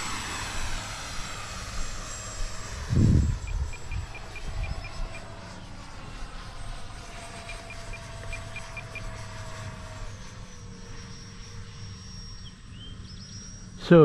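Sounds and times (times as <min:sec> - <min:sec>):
electric ducted fan whining: 0:00.0 - 0:14.0.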